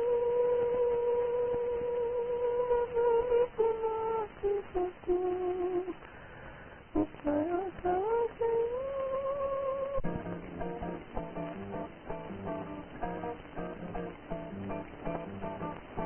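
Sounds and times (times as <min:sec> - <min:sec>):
person humming a melody: 0:00.0 - 0:06.0, 0:07.0 - 0:16.0.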